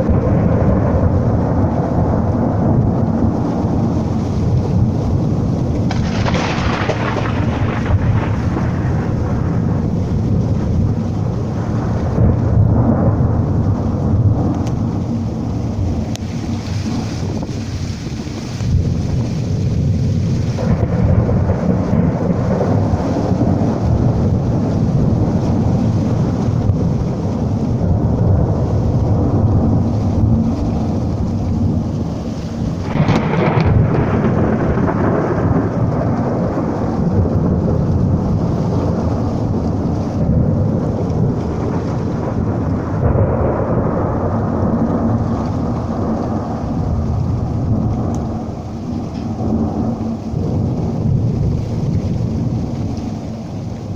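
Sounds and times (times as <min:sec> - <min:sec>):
rain falling: 0:00.0 - 0:53.9
sharp thunder clap: 0:00.0 - 0:53.9
thunder rumbling: 0:00.0 - 0:53.9.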